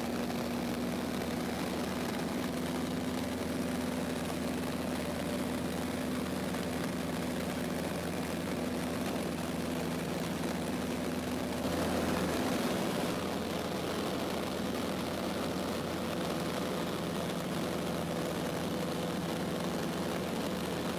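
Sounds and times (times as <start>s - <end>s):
light aircraft engine and propeller: 0.0s - 20.9s.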